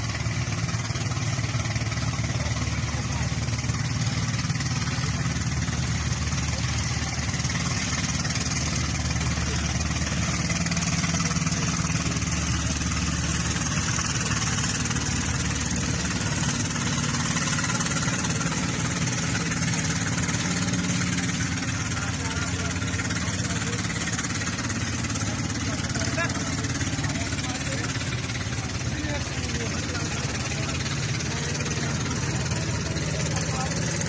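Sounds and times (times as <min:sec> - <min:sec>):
boat engine humming: 0:00.0 - 0:34.0.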